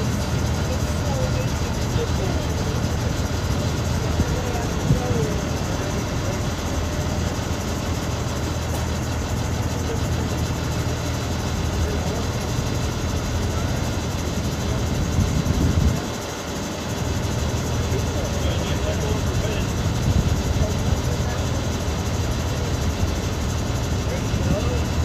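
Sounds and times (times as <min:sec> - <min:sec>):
indistinct voices: 0:00.0 - 0:25.0
truck engine idling: 0:00.0 - 0:25.0.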